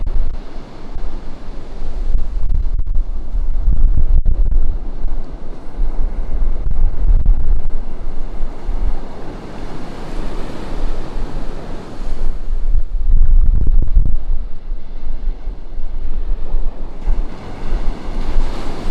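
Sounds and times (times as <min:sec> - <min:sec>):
ocean surf breaking on beach: 0:00.0 - 0:18.9
wind buffeting microphone: 0:00.0 - 0:18.9.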